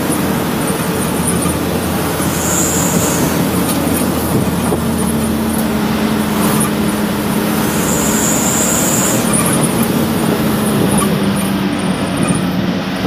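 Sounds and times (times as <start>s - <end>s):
truck engine running: 0.0s - 13.0s
tyre and road noise: 0.0s - 13.0s
high-pitched hiss: 0.1s - 11.1s.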